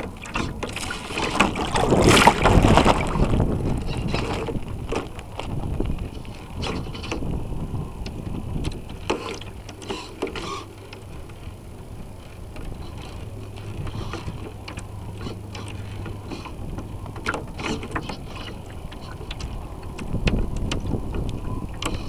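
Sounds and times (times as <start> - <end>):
steady low hum: 0.0 - 22.0
water noise: 0.0 - 22.0.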